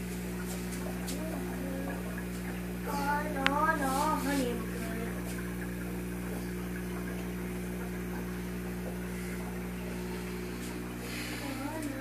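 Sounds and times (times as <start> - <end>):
aquarium air pump humming: 0.0 - 12.0.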